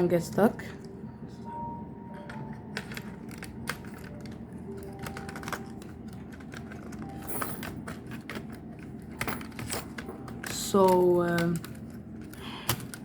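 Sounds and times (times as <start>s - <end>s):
laptop parts clicking and tapping: 2.1s - 13.0s.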